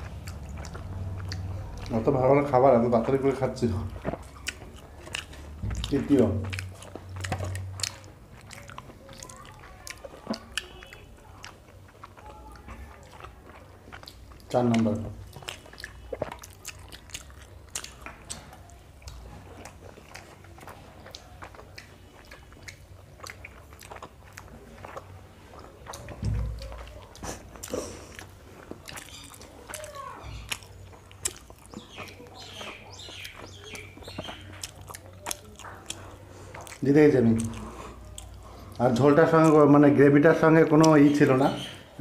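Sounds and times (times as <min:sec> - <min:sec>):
people chewing soft food: 0:00.0 - 0:42.0.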